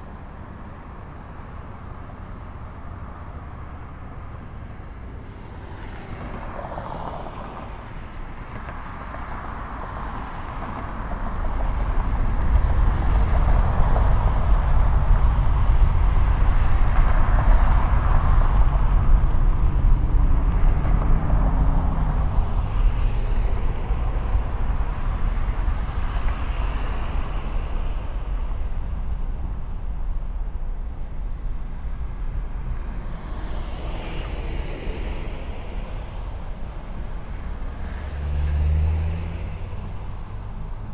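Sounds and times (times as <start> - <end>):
jet engines at takeoff: 0.1 - 38.1
car passing: 0.8 - 40.9.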